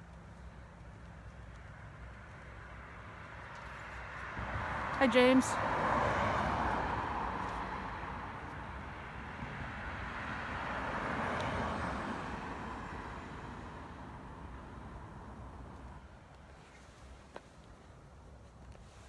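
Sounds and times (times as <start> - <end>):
cars passing: 0.0 - 18.2.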